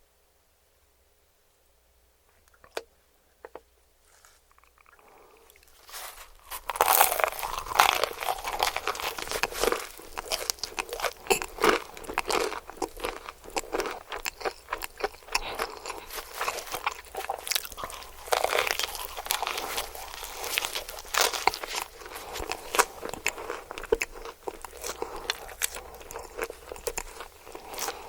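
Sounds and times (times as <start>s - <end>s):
crunchy chewing of fried chicken: 4.1s - 28.0s.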